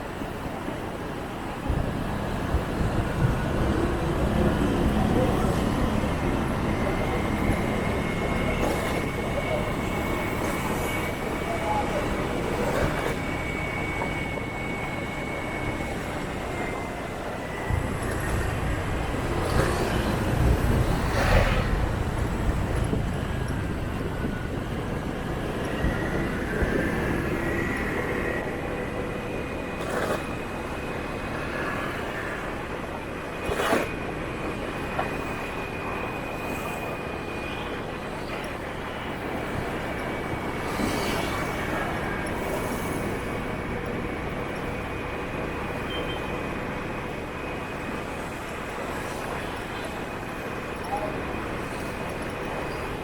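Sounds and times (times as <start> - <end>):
motorbike engines and road noise: 0.0 - 53.0.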